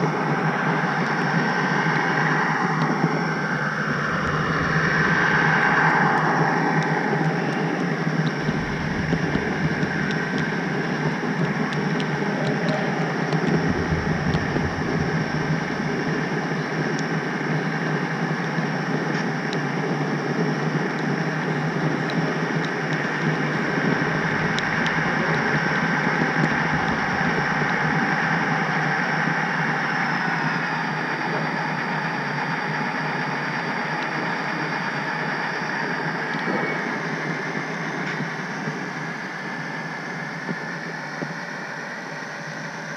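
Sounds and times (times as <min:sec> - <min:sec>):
high motor whine: 0:00.0 - 0:42.9.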